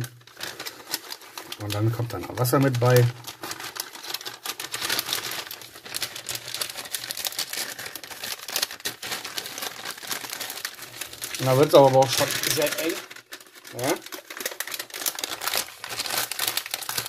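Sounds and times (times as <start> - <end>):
packaging crinkling: 0.0 - 17.0.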